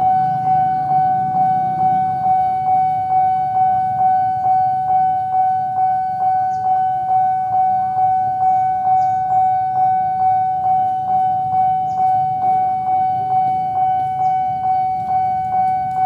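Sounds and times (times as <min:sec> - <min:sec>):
level-crossing warning bell ringing: 0:00.0 - 0:16.0.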